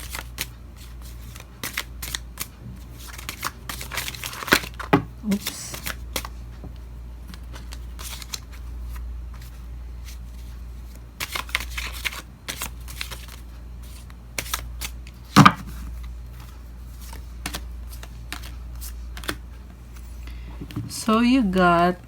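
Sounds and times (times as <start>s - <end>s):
cards being shuffled: 0.0s - 6.4s, 7.3s - 21.0s.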